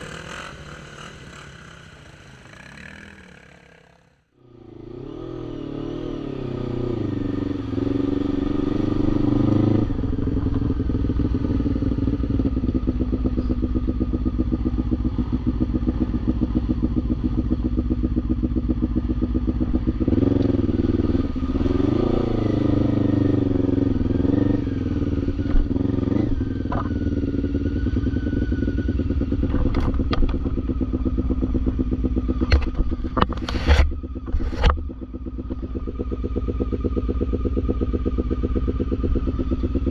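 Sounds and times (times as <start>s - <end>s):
quad bike engine revving: 0.0s - 34.7s.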